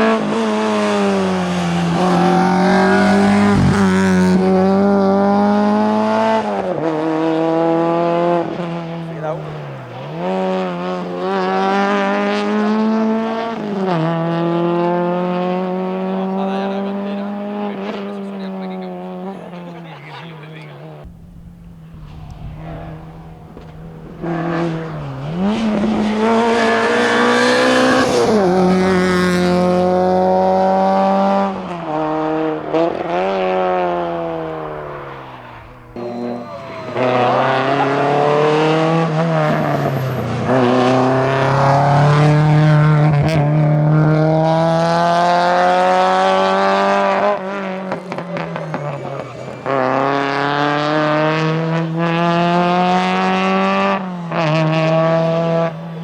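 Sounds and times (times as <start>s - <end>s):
rally car engine at full throttle: 0.0s - 56.0s.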